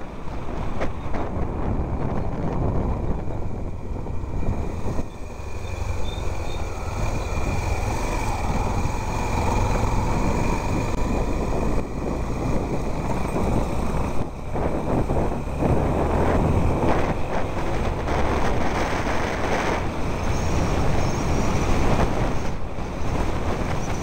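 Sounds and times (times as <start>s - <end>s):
road and wind noise: 0.0s - 24.0s
vehicle engine rumble: 0.0s - 24.0s.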